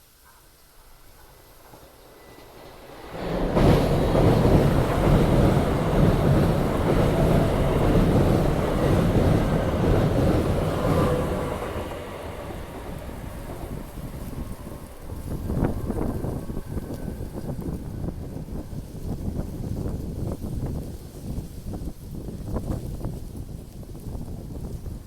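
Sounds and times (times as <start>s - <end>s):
electric train passing: 0.6s - 21.8s.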